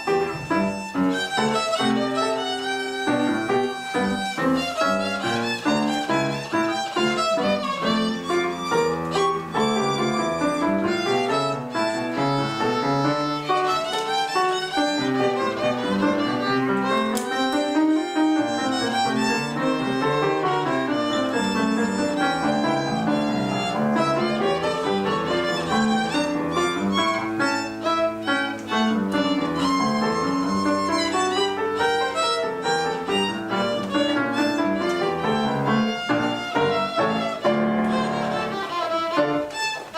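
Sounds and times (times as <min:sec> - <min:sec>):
soft piano accompaniment: 0:00.0 - 0:39.9
violins playing quick notes: 0:00.0 - 0:39.9.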